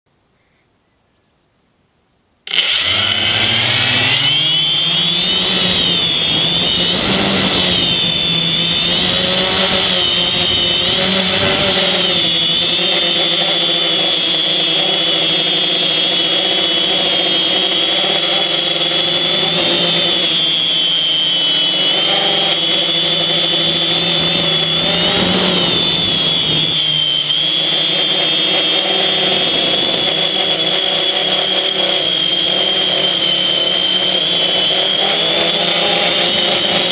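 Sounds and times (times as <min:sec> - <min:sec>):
drone propellers whining: 0:02.5 - 0:36.9.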